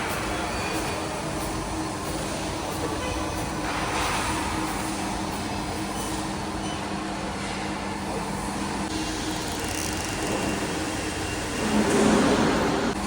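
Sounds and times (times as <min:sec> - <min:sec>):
machine mechanical hum: 0:00.0 - 0:13.0.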